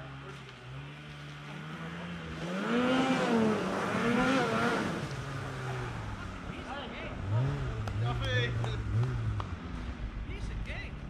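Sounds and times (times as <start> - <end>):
snowmobile engine revving: 0.0 - 11.0
snowmobile engines idling: 0.0 - 11.0.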